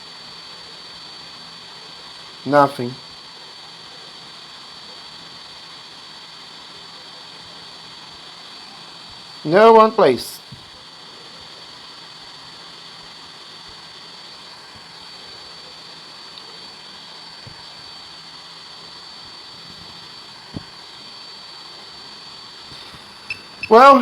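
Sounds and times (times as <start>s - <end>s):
cooling fan whirring with high whine: 0.0s - 24.0s.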